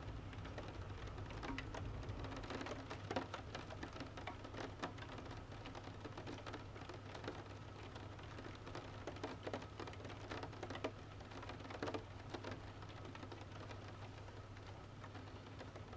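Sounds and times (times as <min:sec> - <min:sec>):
steady rain: 0:00.0 - 0:15.9.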